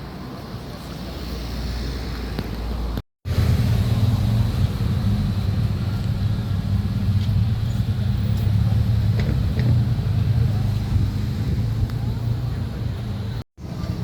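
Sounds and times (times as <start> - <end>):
vehicle engine humming: 2.4 - 14.0.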